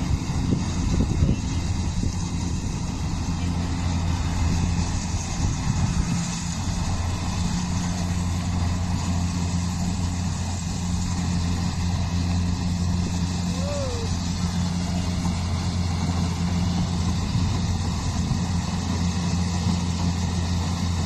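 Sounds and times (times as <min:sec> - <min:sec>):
harvester engine humming: 0:00.0 - 0:21.0.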